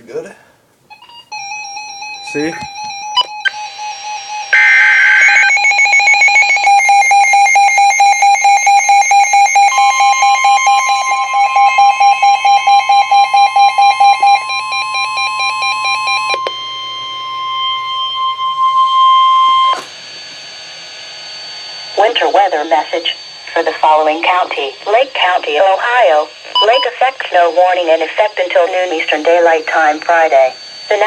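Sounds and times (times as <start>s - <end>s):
warbling digital data tones: 0.9s - 19.8s, 20.4s - 31.0s
rapid electronic beeping alarm: 0.9s - 31.0s
steady warning alarm tone: 0.9s - 31.0s.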